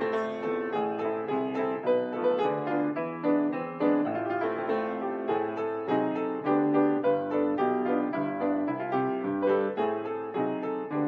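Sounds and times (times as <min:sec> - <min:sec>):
grand piano playing: 0:00.0 - 0:11.0.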